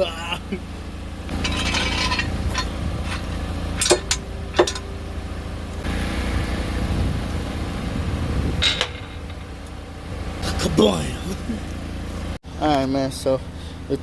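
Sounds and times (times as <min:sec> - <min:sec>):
steady low rumble: 0:00.2 - 0:14.0.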